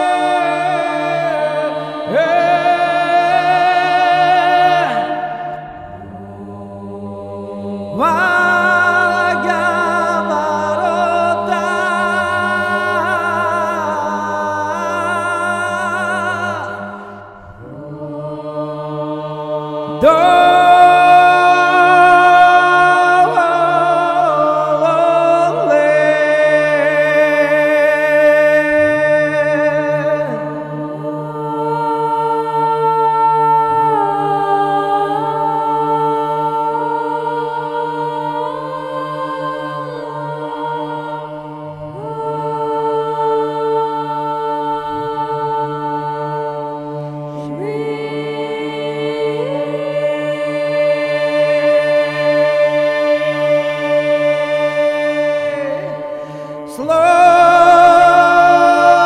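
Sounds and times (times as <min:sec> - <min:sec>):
choir chanting: 0:00.0 - 0:59.0
low vocal drone: 0:00.0 - 0:59.0.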